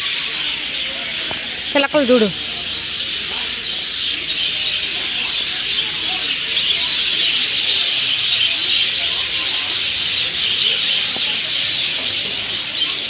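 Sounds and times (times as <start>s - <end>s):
parrots chattering and screeching: 0.0s - 13.0s.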